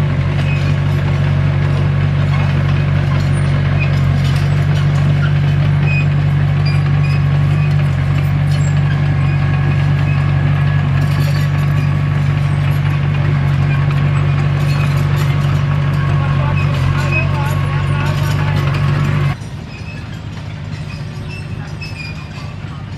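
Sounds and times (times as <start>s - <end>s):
heavy machine diesel engine running: 0.0s - 22.9s.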